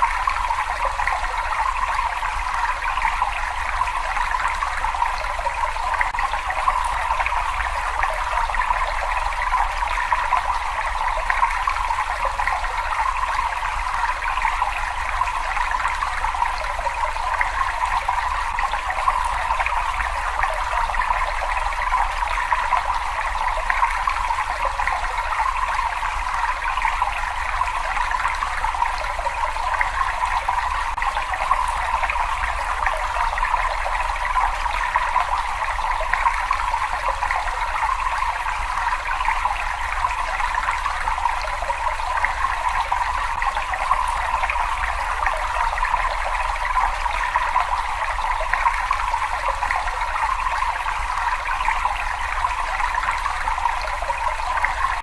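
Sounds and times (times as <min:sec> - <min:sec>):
water flowing in a cave: 0:00.0 - 0:55.0.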